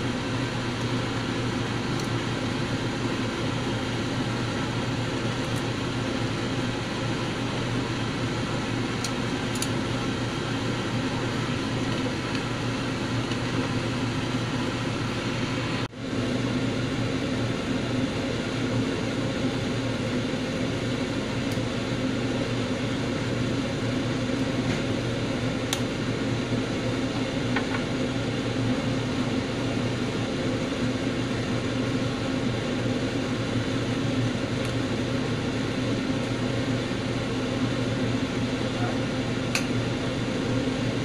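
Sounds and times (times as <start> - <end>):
appliance fan humming: 0.0 - 41.0.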